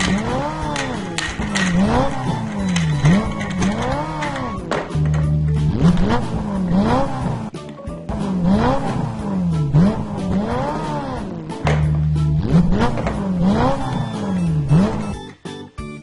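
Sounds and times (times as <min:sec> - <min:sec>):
background music loop: 0:00.0 - 0:16.0.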